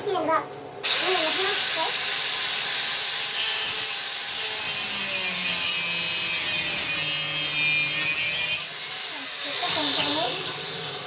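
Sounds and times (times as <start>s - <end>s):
tool cutting: 0.8s - 11.0s.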